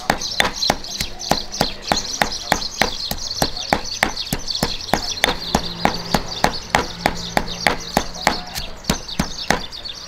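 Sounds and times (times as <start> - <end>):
stone pestle pounding in mortar: 0.0 - 9.8.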